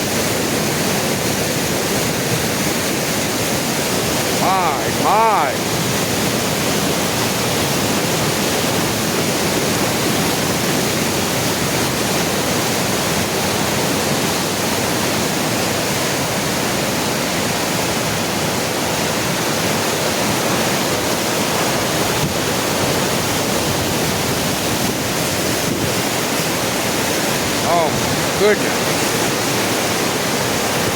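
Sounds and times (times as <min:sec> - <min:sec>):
river water rushing: 0:00.0 - 0:30.9.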